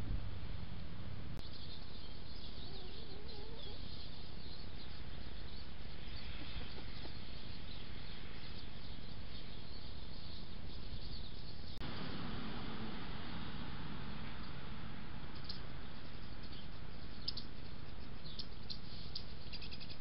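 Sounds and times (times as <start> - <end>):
small birds chirping: 1.4 - 20.0
microphone hiss: 3.8 - 20.0.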